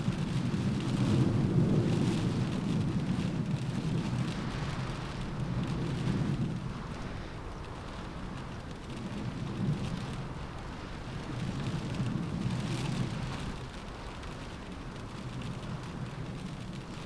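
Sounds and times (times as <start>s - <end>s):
low wind rumble: 0.0s - 17.0s
rain rushing on window: 0.0s - 17.0s
raindrop ticks: 0.0s - 17.0s.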